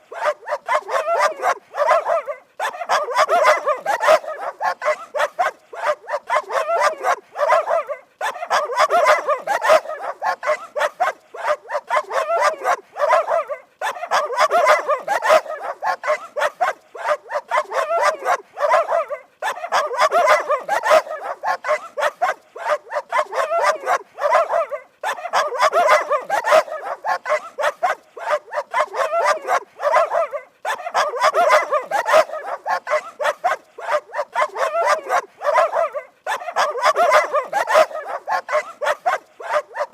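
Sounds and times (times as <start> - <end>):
dogs barking rapidly: 0.0 - 39.9.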